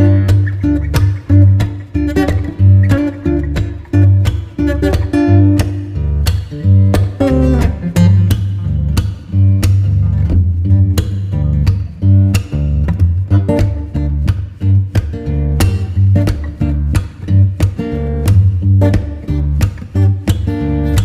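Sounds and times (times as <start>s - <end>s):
heavy bass line: 0.0s - 21.0s
percussive beat: 0.0s - 21.0s
plucked acoustic guitar: 0.0s - 21.0s.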